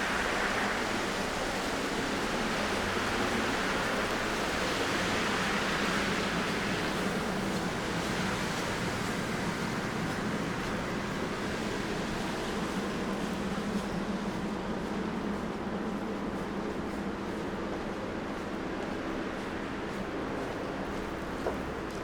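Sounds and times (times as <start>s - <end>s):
outdoor street ambience hiss: 0.0s - 22.0s.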